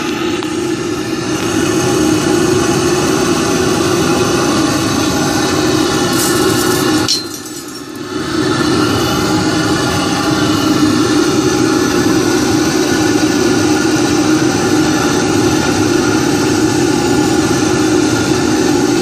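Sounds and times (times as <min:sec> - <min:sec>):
propane burner firing: 0:00.0 - 0:19.0.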